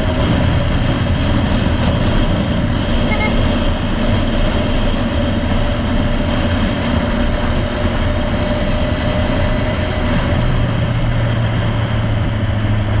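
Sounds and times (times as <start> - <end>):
motorcycle engine running: 0.0 - 13.0
road noise: 0.0 - 13.0
wind noise: 0.0 - 13.0.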